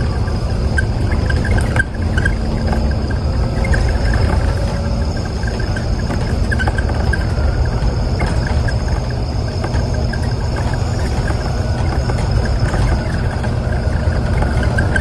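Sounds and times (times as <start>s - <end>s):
bus engine and road rumble: 0.0s - 15.0s
light rattling ticks: 0.0s - 15.0s.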